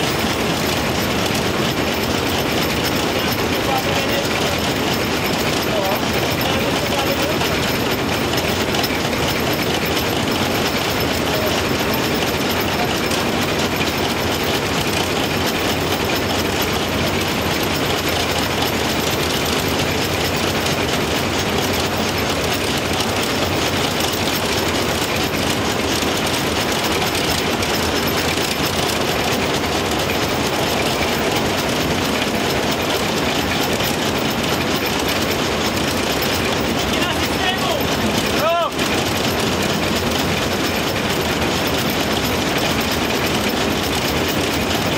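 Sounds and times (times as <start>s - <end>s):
steam locomotive clattering on rails: 0.0s - 44.9s.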